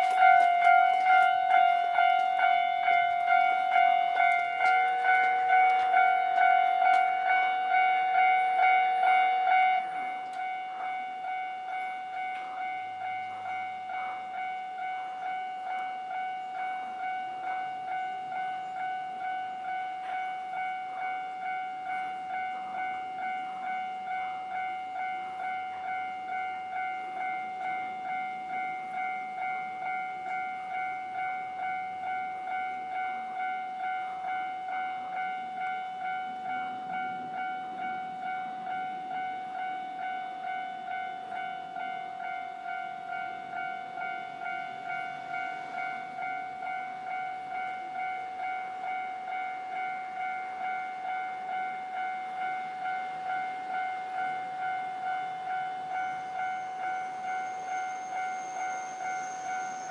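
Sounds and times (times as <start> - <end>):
level crossing warning bell: 0.0 - 59.9.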